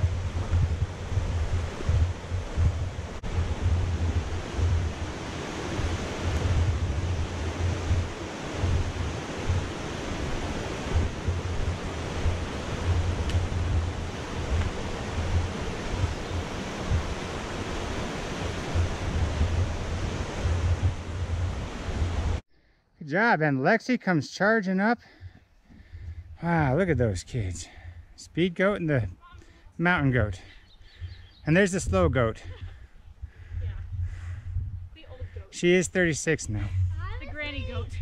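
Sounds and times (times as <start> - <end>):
wind buffeting microphone: 0.0 - 22.4, 25.2 - 28.2, 29.1 - 38.0.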